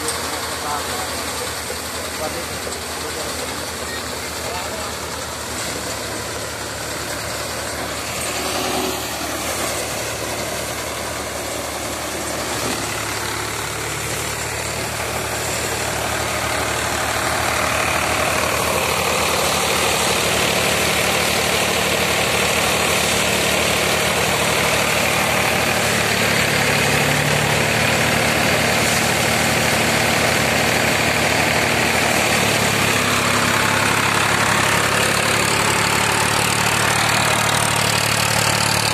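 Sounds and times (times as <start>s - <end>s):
diesel tractor engine running: 0.0s - 38.9s
thresher drum whirring: 0.0s - 38.9s.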